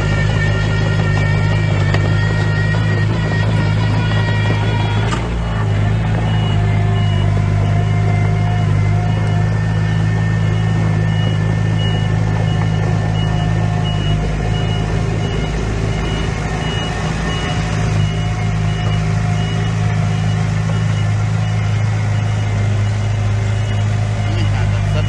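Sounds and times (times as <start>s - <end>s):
heavy diesel engine running: 0.0s - 25.0s
reversing alarm beeping: 0.0s - 25.0s.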